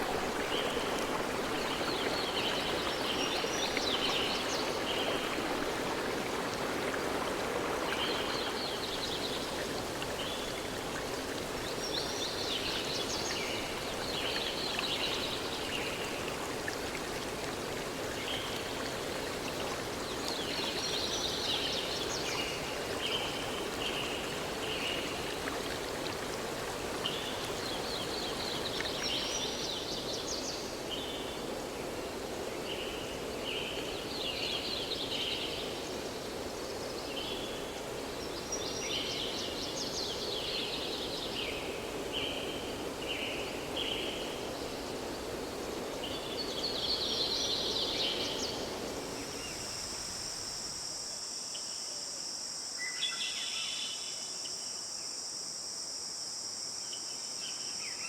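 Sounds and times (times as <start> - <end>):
stream running: 0.0 - 51.2.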